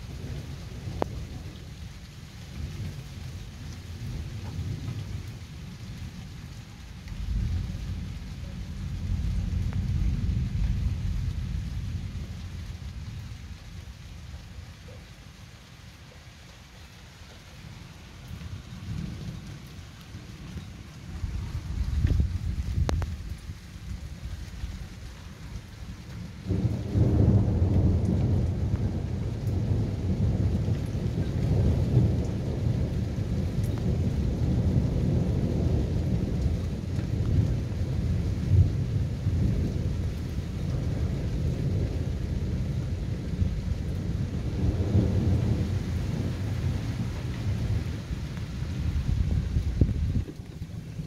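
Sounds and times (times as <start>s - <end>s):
rolling thunder rumble: 0.0s - 14.3s, 18.2s - 51.0s.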